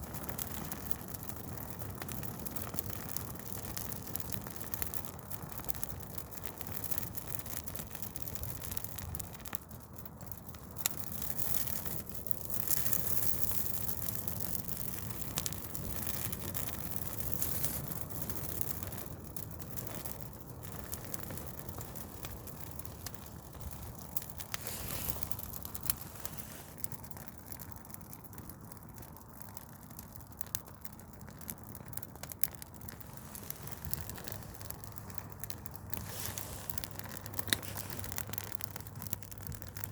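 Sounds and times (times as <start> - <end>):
rush of flames: 0.0 - 39.9
wood crackling and popping: 0.0 - 39.9.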